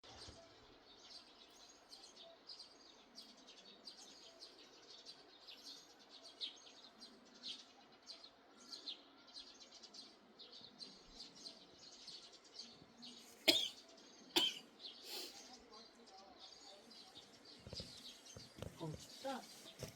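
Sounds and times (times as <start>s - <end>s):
songbirds chirping and twittering: 0.0s - 19.9s.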